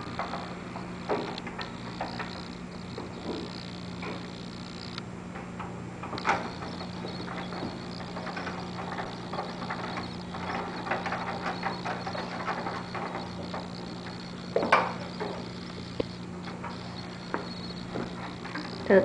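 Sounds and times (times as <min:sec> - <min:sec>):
hardware clicking and clattering: 0:00.0 - 0:18.9
steady low hum: 0:00.0 - 0:19.0.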